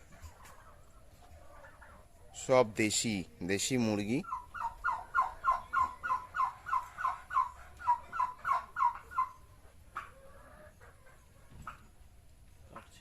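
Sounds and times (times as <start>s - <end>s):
poultry clucking: 0.0s - 13.0s.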